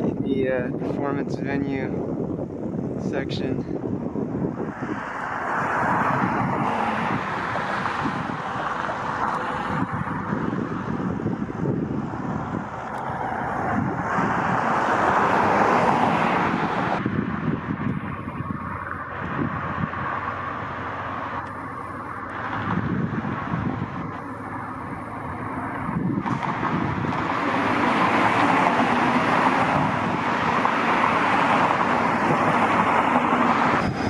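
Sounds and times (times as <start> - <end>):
cars going by: 0.0 - 34.0.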